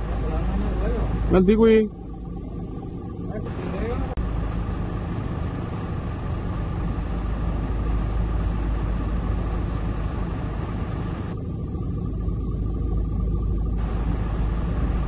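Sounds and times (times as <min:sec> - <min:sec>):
heavy engine rumbling: 0:00.0 - 0:15.0.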